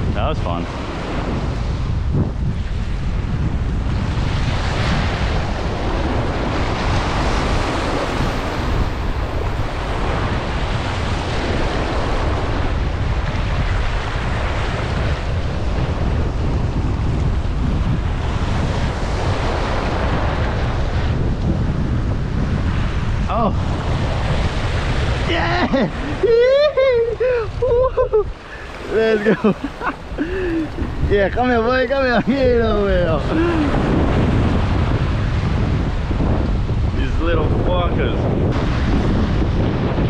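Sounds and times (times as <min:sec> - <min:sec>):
ocean surf on rocks: 0:00.0 - 0:40.0
wind buffeting microphone: 0:00.0 - 0:40.0.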